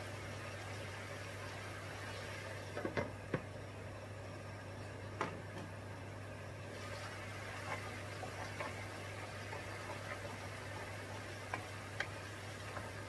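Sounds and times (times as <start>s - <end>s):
steady hiss and hum: 0.0s - 13.0s.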